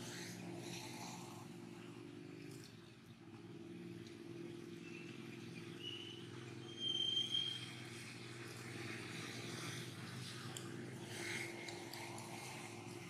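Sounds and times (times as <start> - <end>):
steady low hum: 0.0 - 6.8, 7.8 - 13.0.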